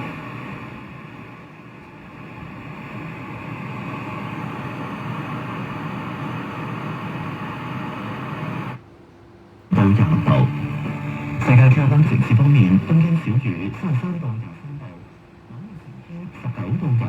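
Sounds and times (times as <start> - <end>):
radio static hiss: 0.0 - 8.8, 9.7 - 17.0.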